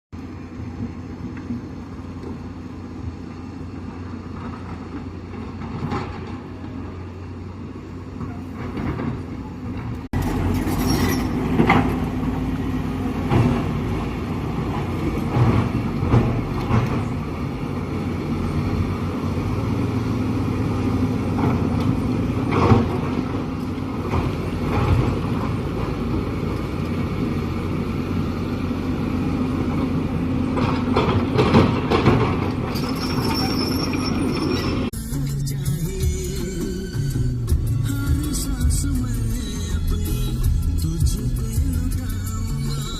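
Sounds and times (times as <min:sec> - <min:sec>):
diesel engines running: 0:00.2 - 0:42.9.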